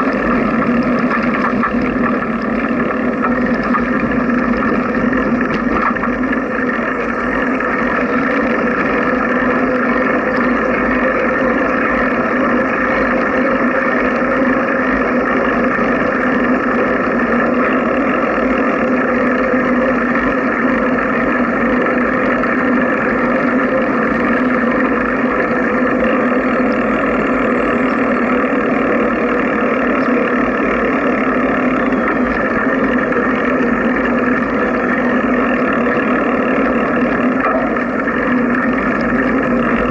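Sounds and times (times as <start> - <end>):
humming tones: 0.0 - 39.9.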